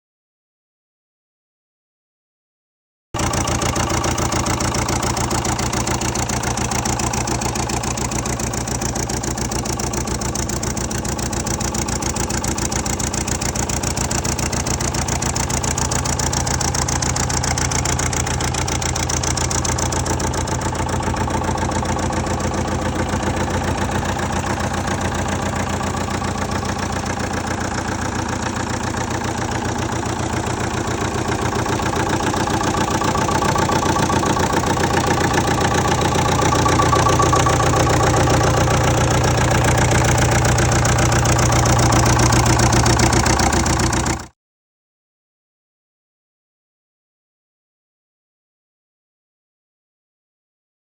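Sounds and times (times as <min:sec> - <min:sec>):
stump grinder engine running: 0:03.2 - 0:44.3.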